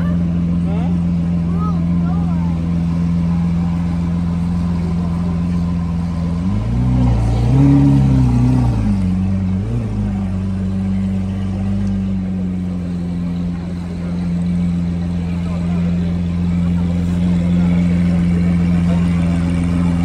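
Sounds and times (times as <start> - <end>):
engine running and revving: 0.0 - 20.0.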